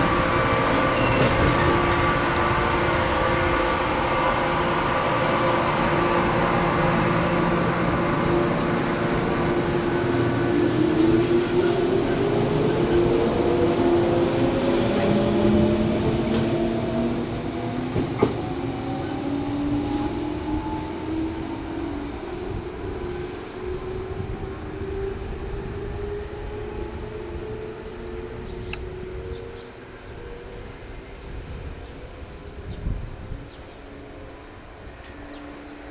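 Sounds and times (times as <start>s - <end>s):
train wheels rumbling: 0.0s - 29.4s.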